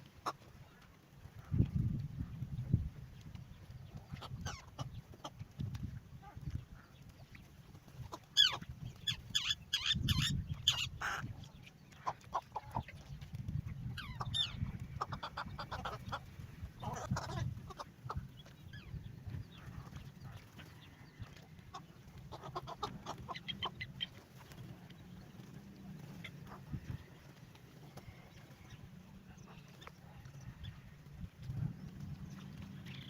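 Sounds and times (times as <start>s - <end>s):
birds calling: 3.4s - 33.0s.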